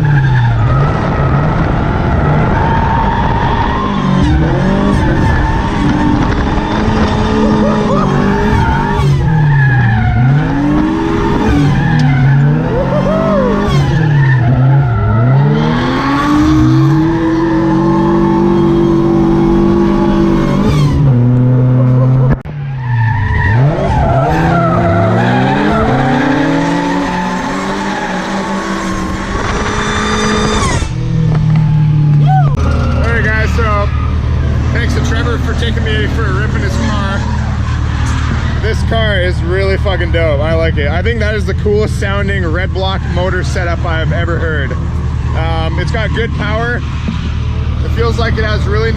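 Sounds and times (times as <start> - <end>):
car engine revving hard: 0.0 - 22.4, 23.5 - 48.9
tyres skidding: 0.0 - 48.9.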